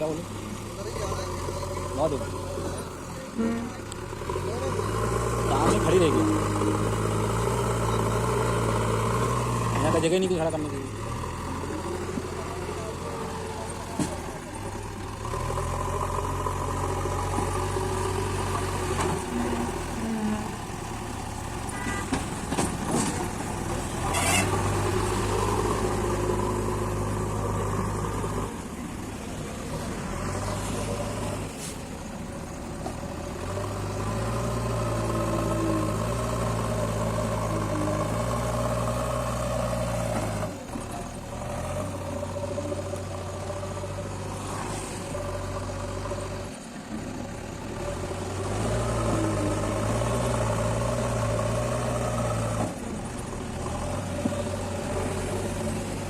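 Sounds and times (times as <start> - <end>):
diesel engine working under load: 0.0 - 56.0.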